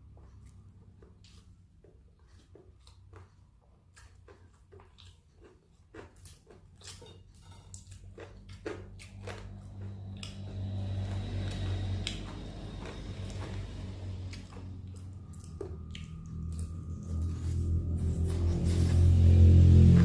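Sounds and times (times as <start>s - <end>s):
chewing crispy fried chicken: 0.0s - 20.0s
low steady hum: 0.0s - 20.0s.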